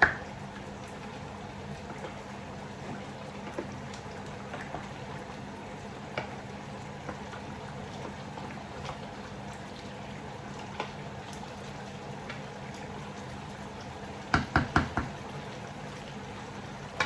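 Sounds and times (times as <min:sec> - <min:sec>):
pot boiling and bubbling: 0:00.0 - 0:17.0.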